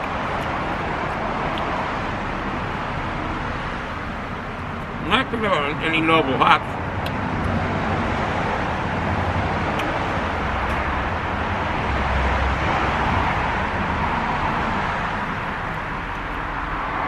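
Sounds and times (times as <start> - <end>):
road traffic rushing past: 0.0 - 17.0.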